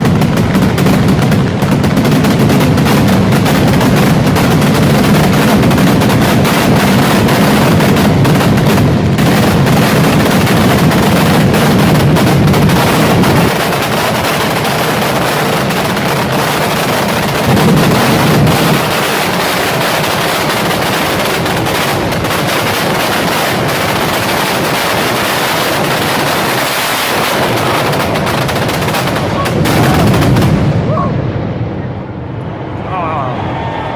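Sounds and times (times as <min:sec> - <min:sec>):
fireworks crackling and popping: 0:00.0 - 0:31.0.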